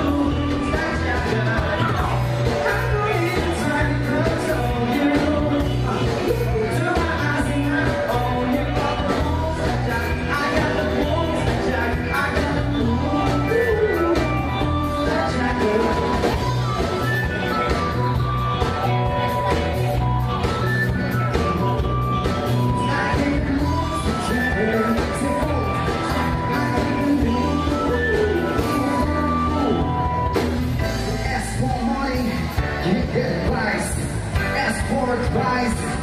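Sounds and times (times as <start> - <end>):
drum kit: 0.0 - 36.0
electric guitar: 0.0 - 36.0
keyboards: 0.0 - 36.0
person singing: 0.0 - 36.0.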